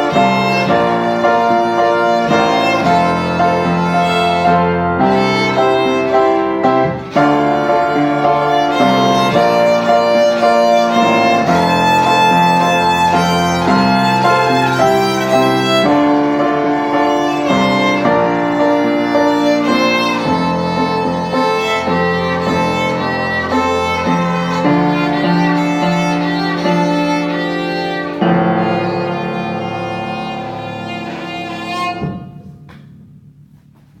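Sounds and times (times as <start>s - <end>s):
bowed string instrument playing: 0.0s - 33.6s.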